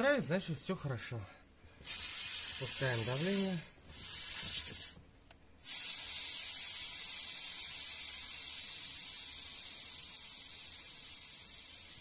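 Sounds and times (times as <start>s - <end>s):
compressed air hissing: 1.7s - 5.0s, 5.6s - 12.0s.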